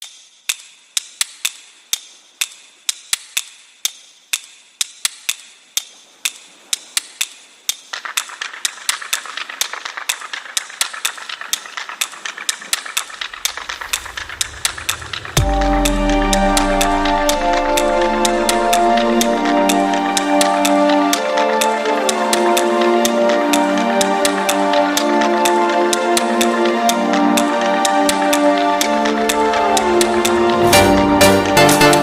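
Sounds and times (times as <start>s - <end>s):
sharp irregular clicks: 0.0s - 30.8s.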